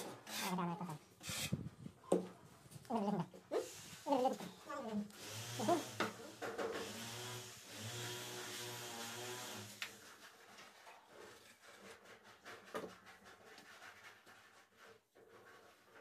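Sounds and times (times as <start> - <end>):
scraping on wall tiles: 0.0 - 1.8, 3.5 - 16.0.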